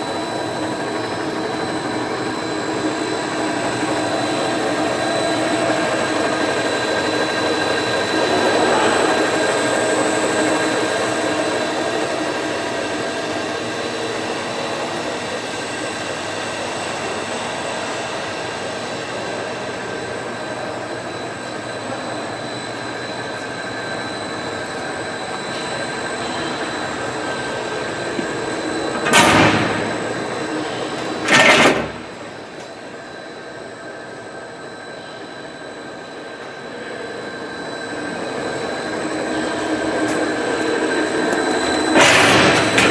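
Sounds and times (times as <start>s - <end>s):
mixer motor hum and whine: 0.0s - 42.9s.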